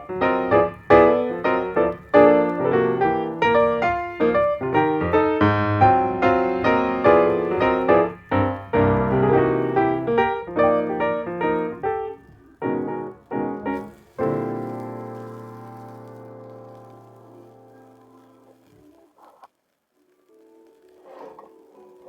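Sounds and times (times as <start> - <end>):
instrumental music struck notes: 0.0 - 18.4.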